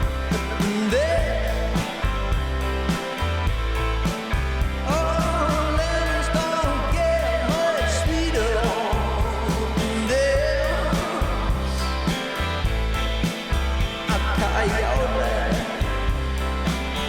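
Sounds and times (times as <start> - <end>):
pop-rock song with beat and bass: 0.0 - 17.0.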